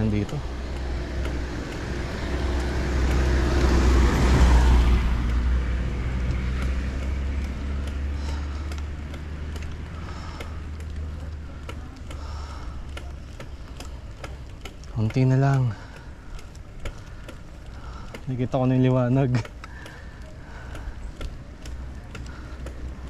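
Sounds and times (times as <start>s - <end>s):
constant low rumble: 0.0s - 23.0s
vehicle passing on road: 0.0s - 23.0s.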